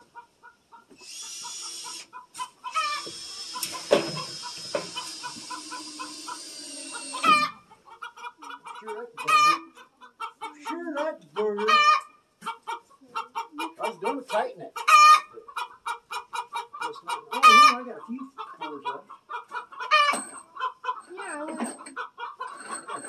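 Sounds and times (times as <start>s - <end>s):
chicken clucking: 0.0s - 23.0s.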